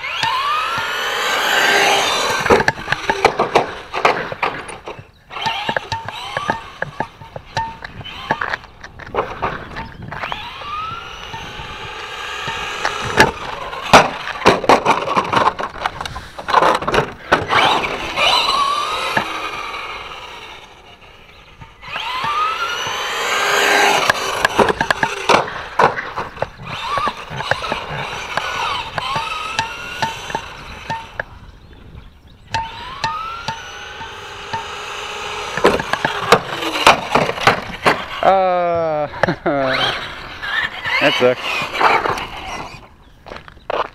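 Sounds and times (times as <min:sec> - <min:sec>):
toy truck landing knocks: 0:00.0 - 0:20.7, 0:21.9 - 0:31.3, 0:32.6 - 0:38.2
tyres scrabbling on dirt: 0:00.0 - 0:32.0, 0:32.6 - 0:43.9
electric motor whining: 0:00.0 - 0:43.9.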